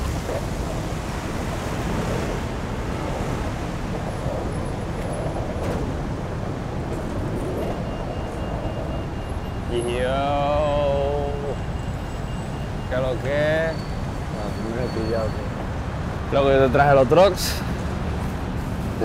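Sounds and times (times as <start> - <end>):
cars passing: 0.0 - 19.0
motorbikes passing: 0.0 - 19.0.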